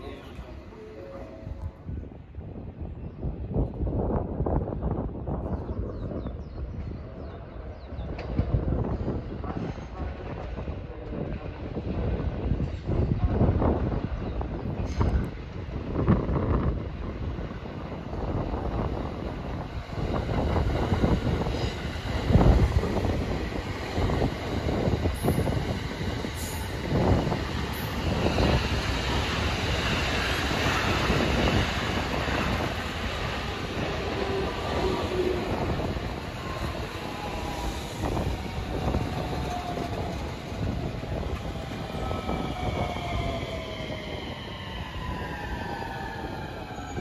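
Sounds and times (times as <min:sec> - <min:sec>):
train wheels rumbling and knocking: 0:06.8 - 0:47.0.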